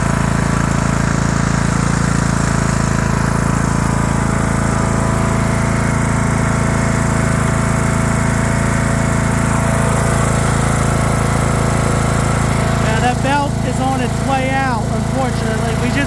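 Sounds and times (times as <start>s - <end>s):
lawn tractor engine running: 0.0s - 16.0s.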